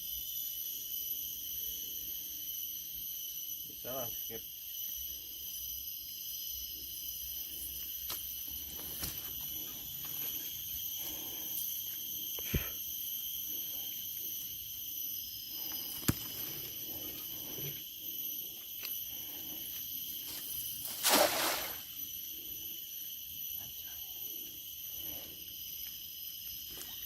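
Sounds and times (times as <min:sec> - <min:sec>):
insect chorus droning: 0:00.0 - 0:27.0.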